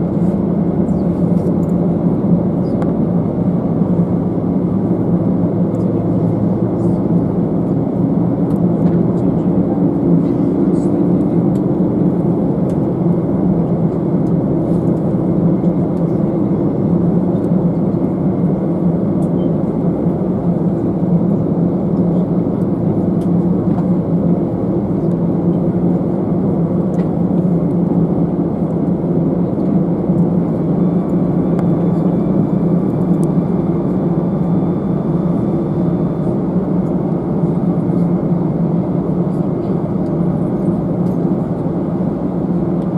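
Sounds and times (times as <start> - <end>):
aircraft cabin engine hum: 0.0 - 42.9.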